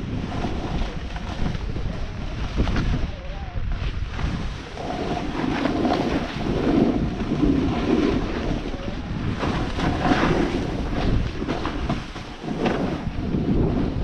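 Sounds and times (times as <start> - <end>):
skis scraping snow: 0.0 - 14.0
wind buffeting microphone: 0.0 - 14.0.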